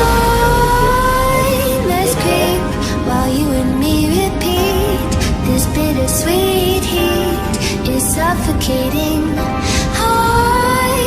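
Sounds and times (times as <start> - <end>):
pop song: 0.0 - 11.0.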